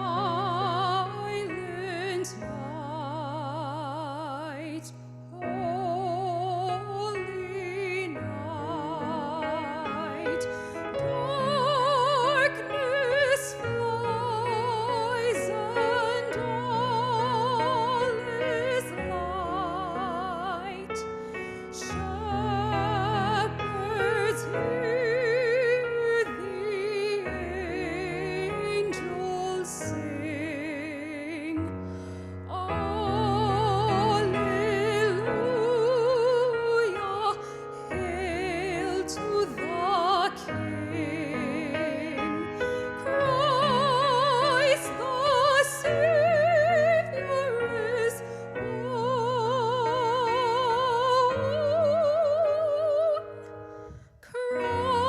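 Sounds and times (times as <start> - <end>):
operatic classical music: 0.0 - 55.0.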